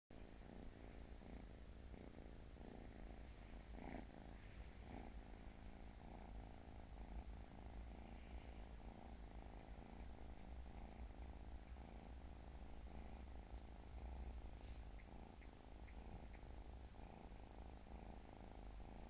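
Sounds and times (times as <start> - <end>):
kitten purring: 0.1 - 19.0.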